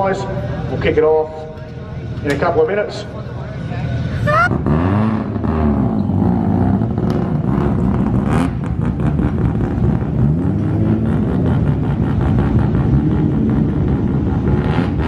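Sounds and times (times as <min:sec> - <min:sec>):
car engines revving hard: 0:02.0 - 0:15.0.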